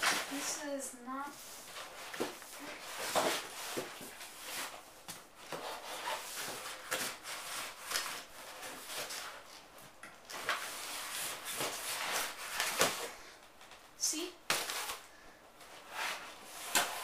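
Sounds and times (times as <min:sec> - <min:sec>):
rustling and crinkling of wrapping: 0:00.0 - 0:17.0.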